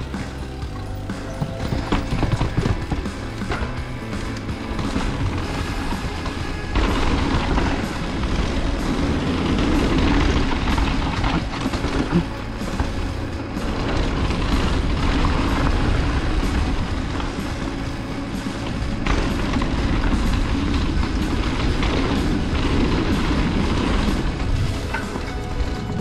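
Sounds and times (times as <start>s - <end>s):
bike knocking and rattling: 0.0s - 26.0s
bike tyres rushing on dirt: 0.0s - 26.0s.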